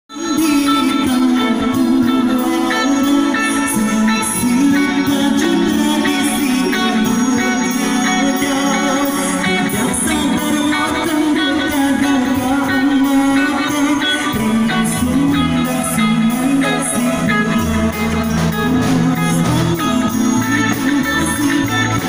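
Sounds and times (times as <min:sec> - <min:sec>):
drums: 0:00.1 - 0:22.0
electric guitars: 0:00.1 - 0:22.0
man singing into microphone: 0:00.1 - 0:22.0
low bass line: 0:00.2 - 0:22.0.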